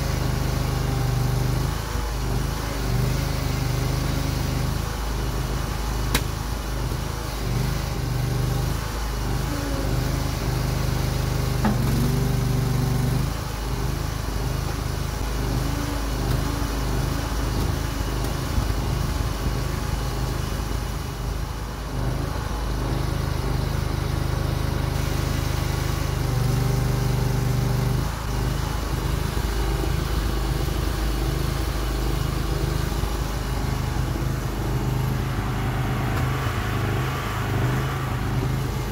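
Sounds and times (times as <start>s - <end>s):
mini excavator engine running: 0.0s - 38.9s.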